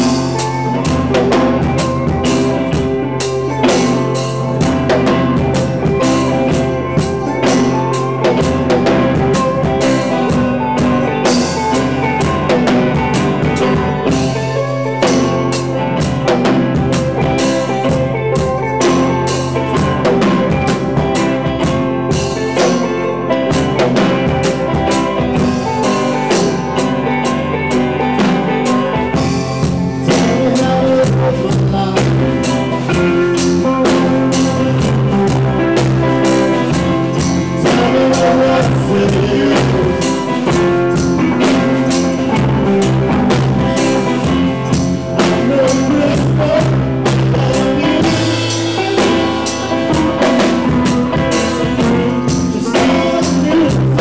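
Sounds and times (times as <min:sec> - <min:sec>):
live band playing: 0:00.0 - 0:54.0
steady drum beat: 0:00.0 - 0:54.0.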